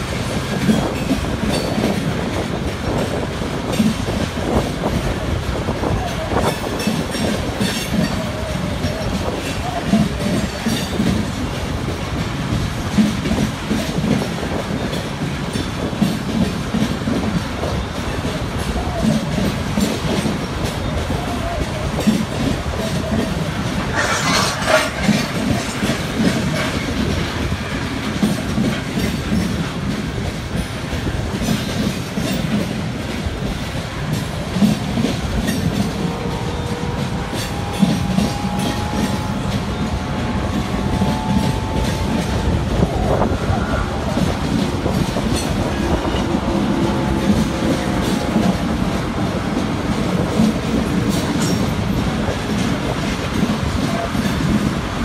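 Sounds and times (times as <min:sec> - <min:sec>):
train wheels clickety-clack: 0:00.0 - 0:55.0.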